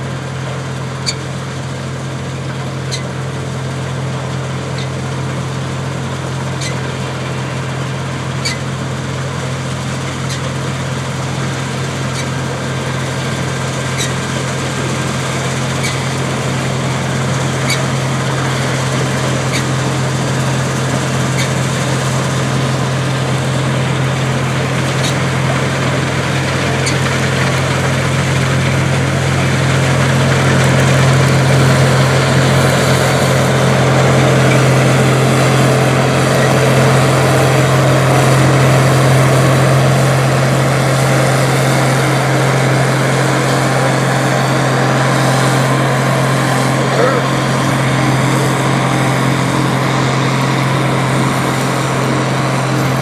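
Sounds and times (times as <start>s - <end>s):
broad machine noise: 0.0s - 53.0s
combine harvester diesel engine: 0.0s - 53.0s.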